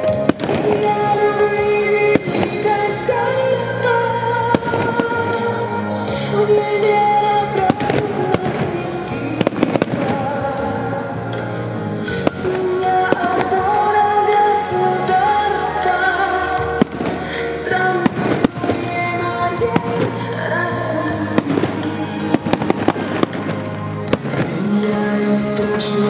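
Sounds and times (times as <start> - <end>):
fireworks bangs: 0.0 - 6.2, 6.8 - 26.0
loud music with held notes: 0.0 - 26.0.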